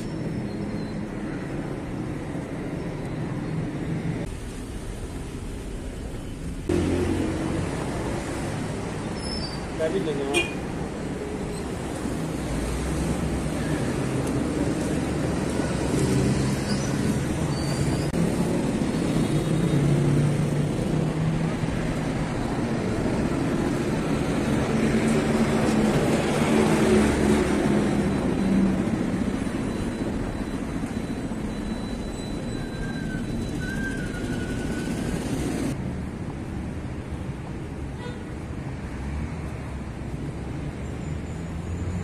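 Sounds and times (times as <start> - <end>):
car engines passing: 0.0 - 42.0.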